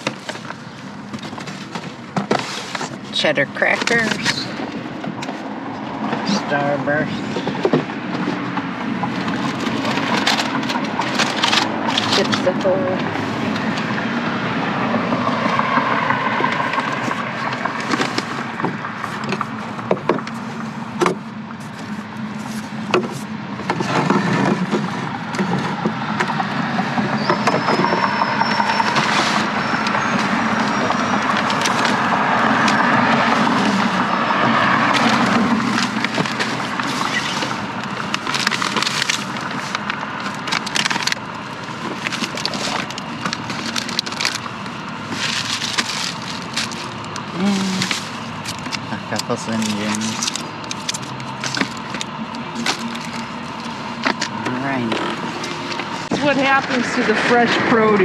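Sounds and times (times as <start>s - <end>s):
packaged food set on shelves: 0.0s - 57.8s
road traffic passing: 0.0s - 58.0s.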